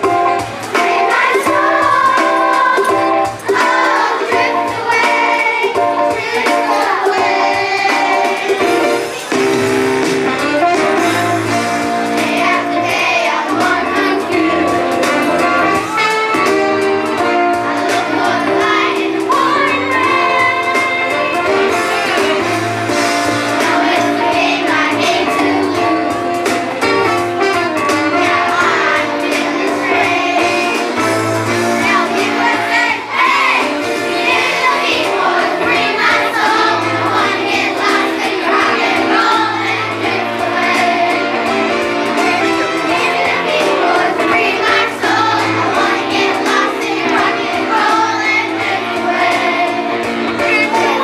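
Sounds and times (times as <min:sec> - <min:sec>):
voices singing a melody: 0:00.0 - 0:09.6, 0:10.9 - 0:16.3, 0:17.0 - 0:51.0
instrumental accompaniment: 0:00.0 - 0:51.0.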